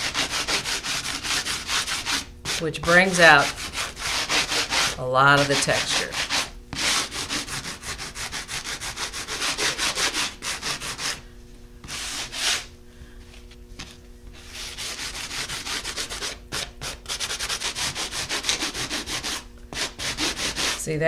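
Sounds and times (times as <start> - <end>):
sanding sponge scrubbing wood: 0.0 - 11.2, 11.8 - 12.7, 14.4 - 20.9.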